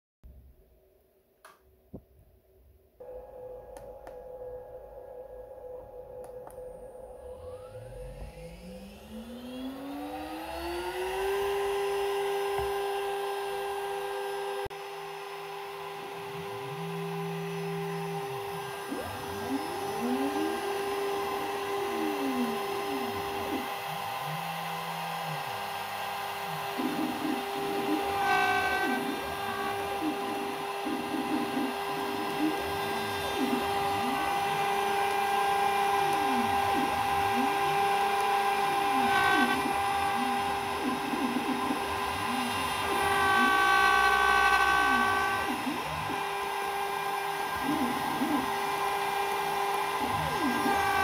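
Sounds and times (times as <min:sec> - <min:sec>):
spindle motor whining: 0:03.0 - 0:51.0
stepper motors whirring: 0:06.4 - 0:51.0.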